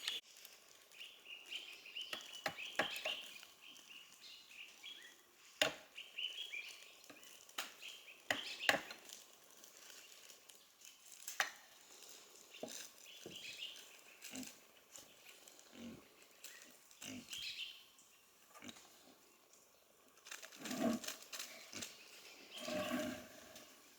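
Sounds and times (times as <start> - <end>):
birds chirping: 0.0 - 0.2, 0.8 - 9.2, 11.8 - 20.0, 20.6 - 23.6.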